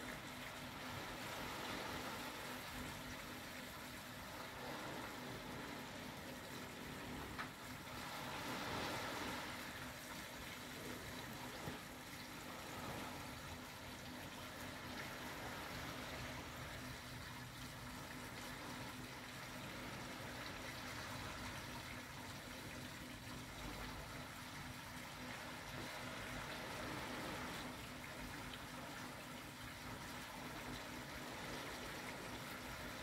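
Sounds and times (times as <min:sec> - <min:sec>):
small waves on a beach: 0:00.0 - 0:33.0.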